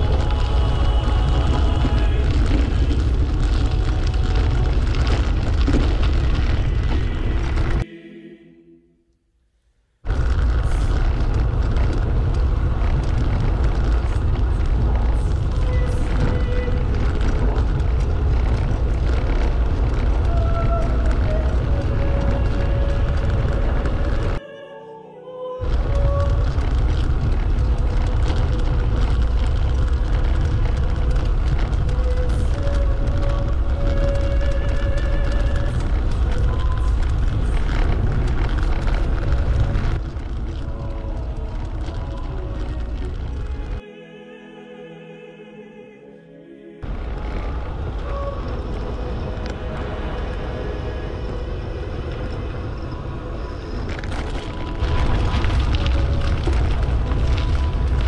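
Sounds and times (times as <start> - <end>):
wind buffeting microphone: 0.0 - 7.8, 10.0 - 24.4, 25.6 - 43.8, 46.8 - 58.0.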